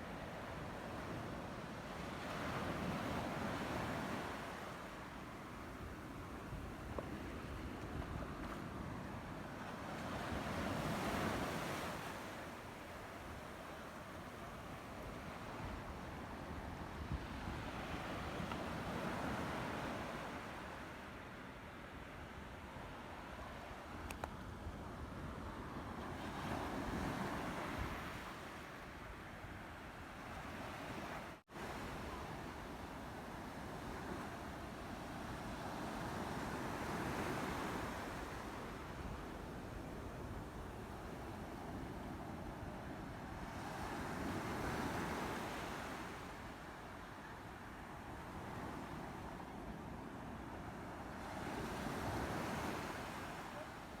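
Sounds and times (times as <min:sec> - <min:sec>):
sea waves washing ashore: 0:00.0 - 0:23.9, 0:25.0 - 0:54.0.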